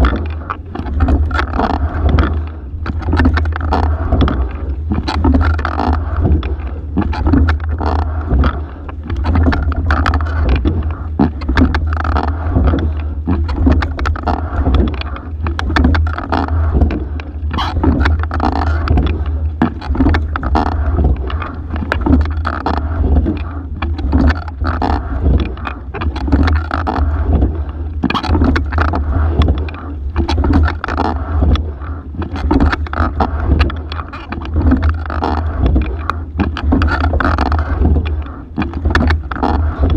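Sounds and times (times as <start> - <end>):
low rumble: 0.0 - 39.9
oar blades splashing water: 0.0 - 39.9
oarlock and seat clicks: 0.0 - 39.9.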